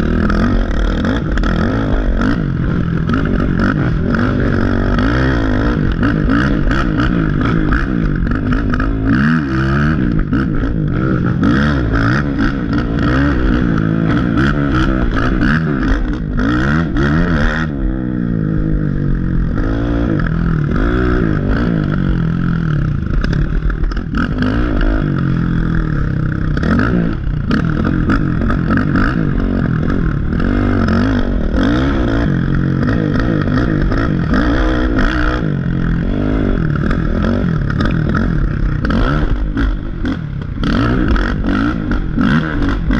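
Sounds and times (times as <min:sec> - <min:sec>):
quad engine revving: 0:00.0 - 0:42.9.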